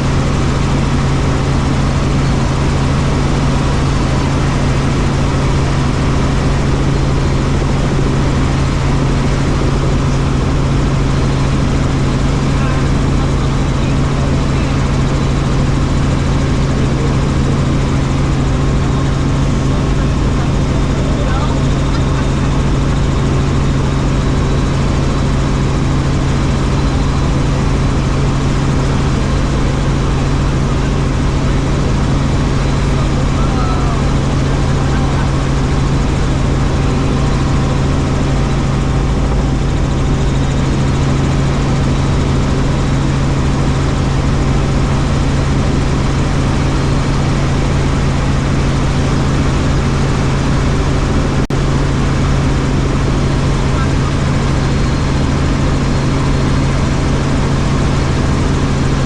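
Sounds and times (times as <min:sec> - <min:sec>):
helicopter rotor and engine drone: 0:00.0 - 0:59.0.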